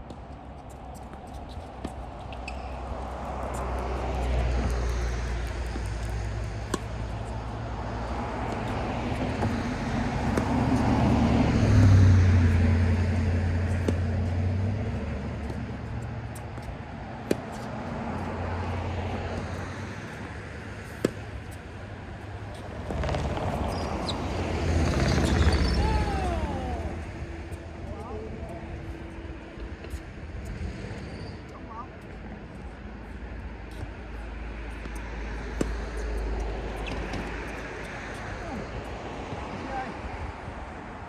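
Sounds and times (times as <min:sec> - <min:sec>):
low vehicle rumble: 0:02.7 - 0:41.0.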